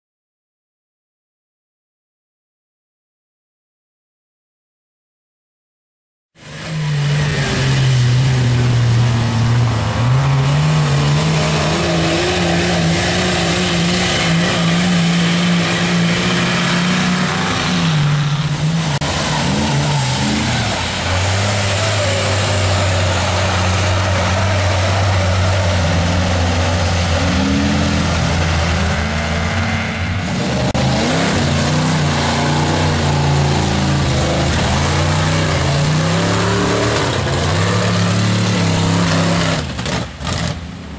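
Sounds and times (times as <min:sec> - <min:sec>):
truck engines revving high: 0:06.4 - 0:40.9.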